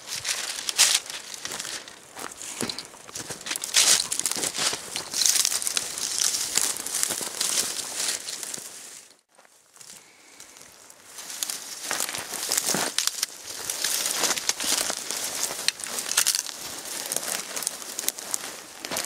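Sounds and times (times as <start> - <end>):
footsteps crunching through dry brush: 0.0 - 19.0.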